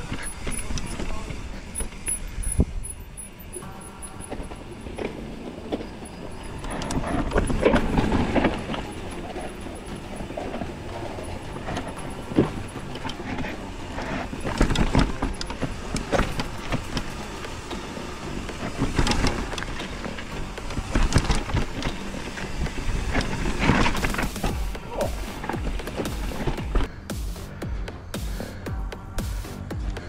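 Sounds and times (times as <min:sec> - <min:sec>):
bike tyres rumbling over rock: 0:00.0 - 0:02.8, 0:03.7 - 0:27.1
bike clattering and knocking: 0:03.6 - 0:30.0.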